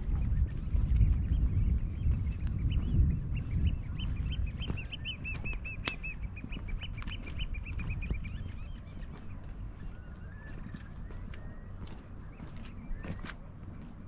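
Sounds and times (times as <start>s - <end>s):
low outdoor rumble: 0.0s - 14.0s
flock of birds piping: 0.1s - 14.0s.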